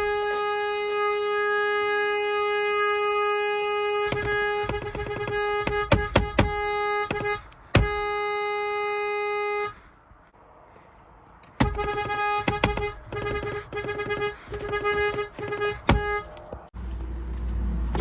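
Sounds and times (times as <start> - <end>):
car horn honking: 0.0 - 9.9, 11.6 - 16.7.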